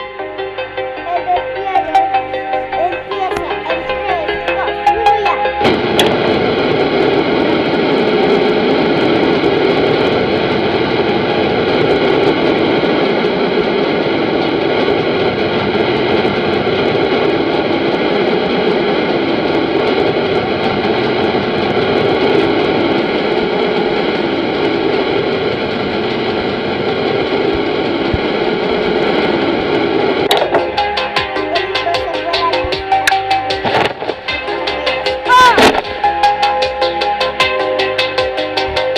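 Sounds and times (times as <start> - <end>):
airplane engines running: 0.0 - 38.9.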